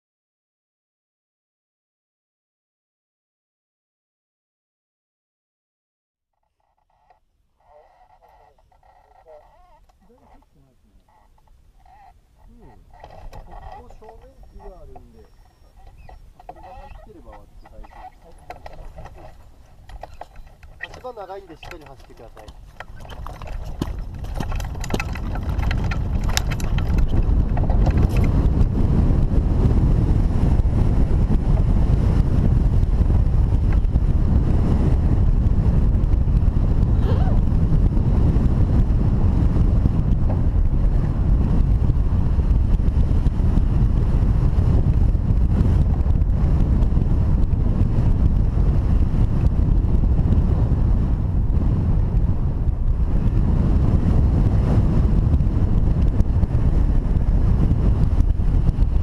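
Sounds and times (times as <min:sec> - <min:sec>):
wind rushing over microphone: 0:06.6 - 0:59.0.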